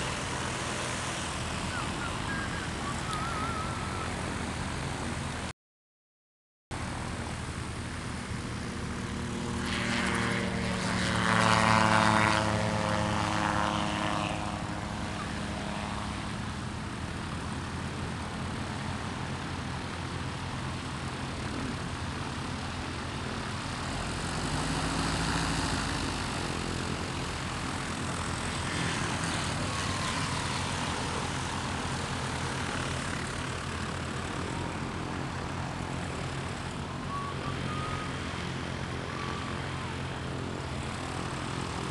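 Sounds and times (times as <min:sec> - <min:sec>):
propeller aircraft engine: 0:00.0 - 0:05.5, 0:06.7 - 0:41.9.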